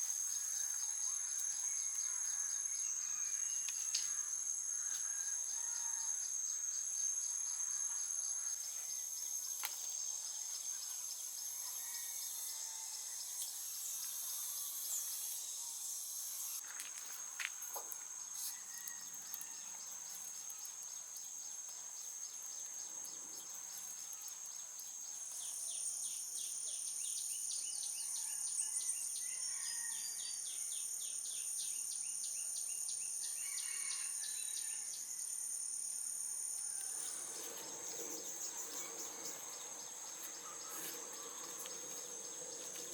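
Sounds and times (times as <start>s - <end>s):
insects trilling: 0.0s - 42.9s
rapidly pulsing insect call: 0.0s - 42.9s.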